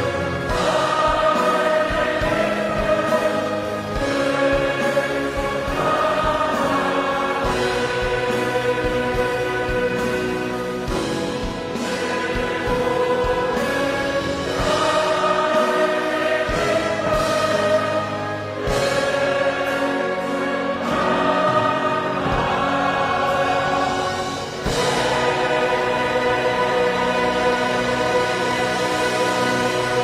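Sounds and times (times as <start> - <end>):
massed choir singing a hymn: 0.0 - 30.0
orchestral accompaniment: 0.0 - 30.0.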